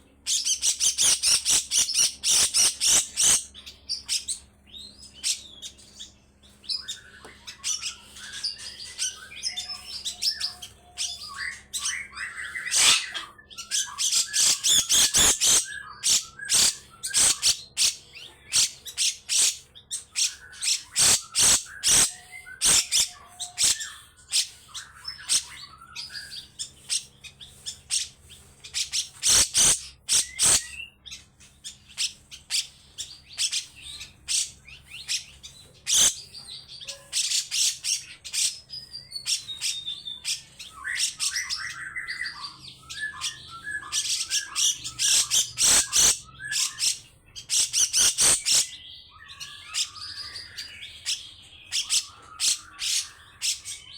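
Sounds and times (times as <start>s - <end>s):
bird harsh rasping calls: 0.2s - 53.9s.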